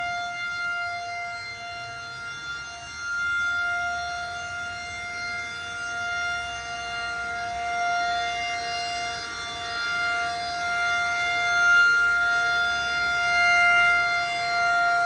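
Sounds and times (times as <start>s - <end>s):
tornado siren steady tone: 0.0s - 15.0s.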